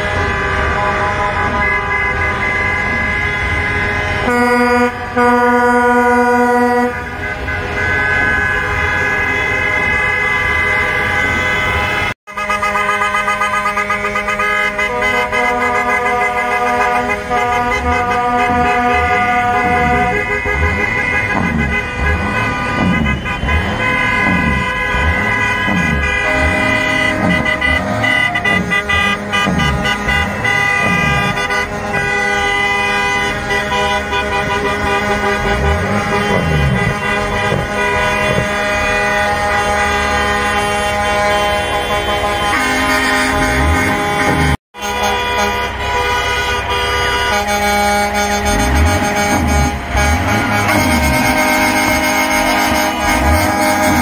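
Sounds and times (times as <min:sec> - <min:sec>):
truck and car horns honking: 0:00.0 - 0:54.0.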